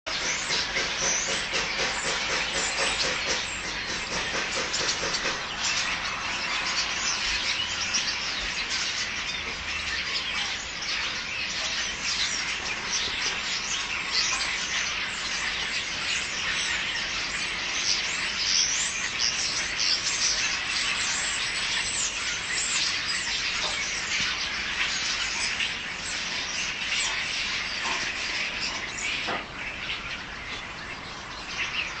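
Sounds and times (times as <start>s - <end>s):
flock of small birds chirping: 0.1s - 32.0s.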